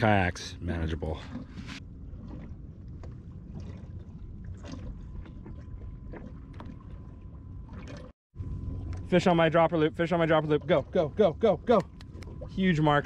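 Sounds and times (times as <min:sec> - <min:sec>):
soft water splashes: 0:00.0 - 0:13.0
waves lapping against hull: 0:00.0 - 0:13.0.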